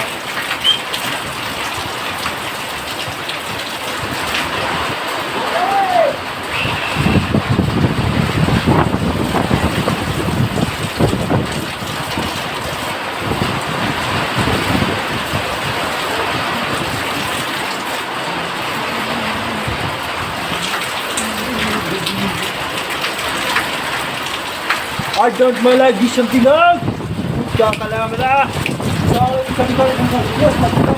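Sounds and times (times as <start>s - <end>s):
heavy rain: 0.0s - 30.9s.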